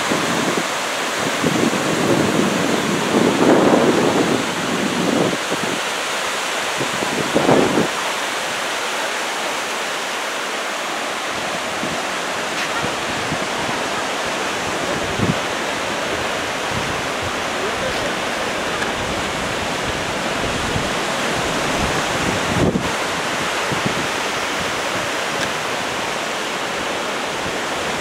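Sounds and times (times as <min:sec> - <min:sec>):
wind gusting on microphone: 0:00.0 - 0:08.6, 0:11.2 - 0:28.0
surf breaking on beach: 0:00.0 - 0:28.0.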